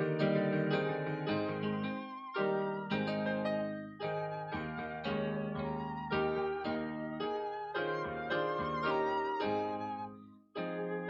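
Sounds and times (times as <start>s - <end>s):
slow solo piano: 0.0s - 11.0s.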